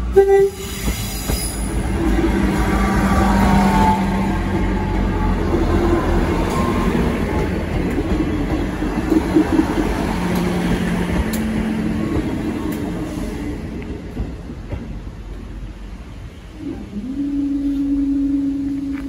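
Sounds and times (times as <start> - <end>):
diesel train engine rumble: 0.0 - 19.0
train wheels on rails: 0.0 - 19.0.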